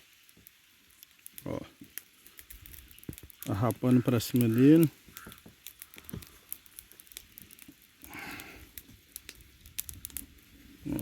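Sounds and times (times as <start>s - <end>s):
faint plastic crackles and clicks: 0.0s - 11.0s.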